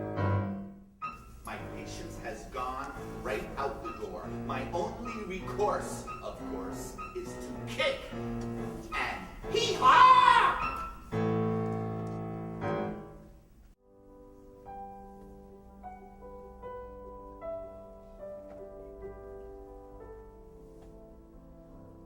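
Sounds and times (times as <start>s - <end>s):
solo piano: 0.0s - 9.9s, 10.5s - 22.0s.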